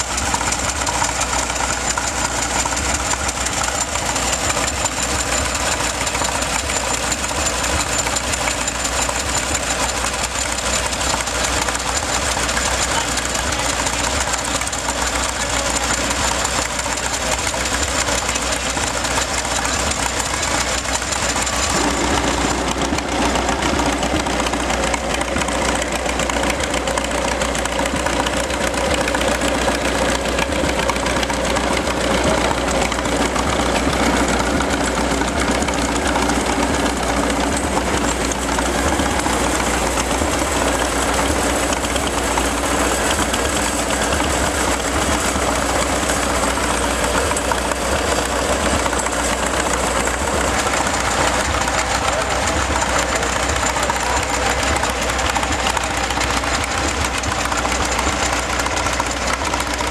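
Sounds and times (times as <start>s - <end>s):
steady machine note: 0.0s - 59.9s
tractor engine running: 0.0s - 59.9s.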